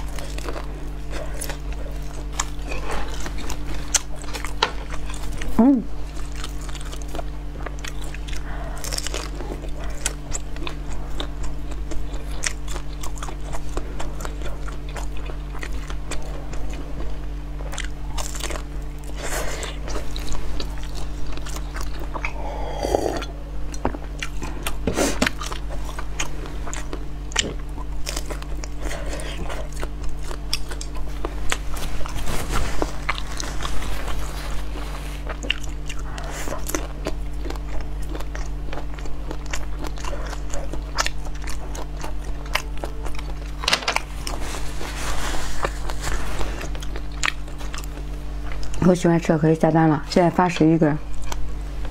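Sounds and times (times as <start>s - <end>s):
biting and chewing: 0.0s - 49.0s, 51.0s - 51.9s
low electrical hum: 0.0s - 51.9s.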